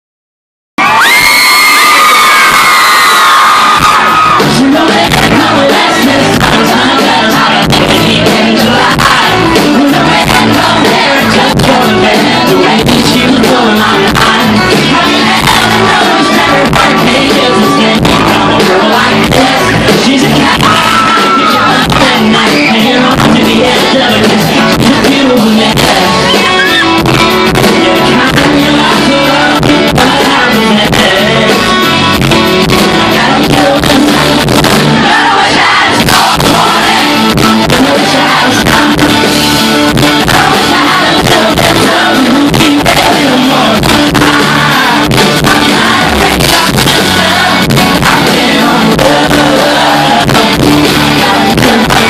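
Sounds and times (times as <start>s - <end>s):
live country-pop band: 0.8s - 52.0s
man singing: 4.2s - 52.0s.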